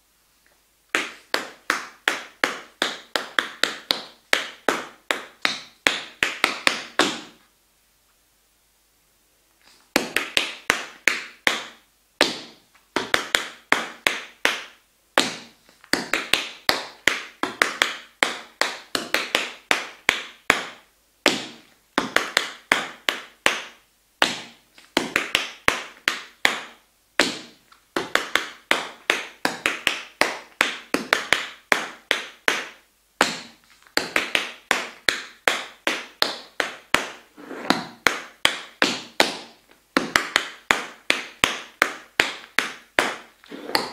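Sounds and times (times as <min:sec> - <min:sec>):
tap shoes on wooden floor: 0:00.9 - 0:07.4, 0:09.9 - 0:43.9.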